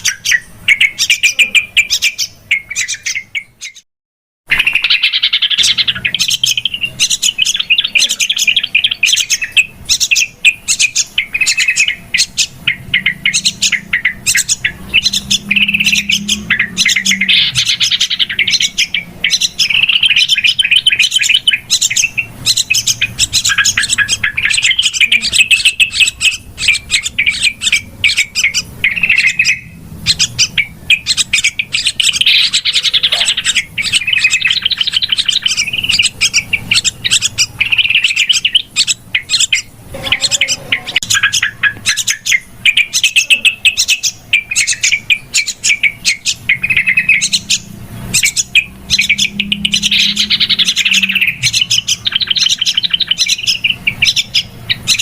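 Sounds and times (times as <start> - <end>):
bulbuls chattering: 0.0 - 3.8, 4.5 - 55.0.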